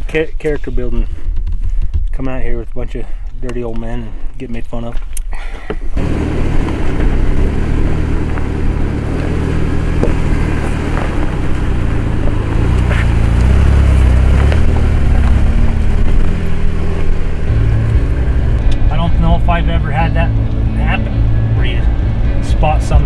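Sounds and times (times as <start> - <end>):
off-road vehicle engine crawling: 0.0 - 23.0.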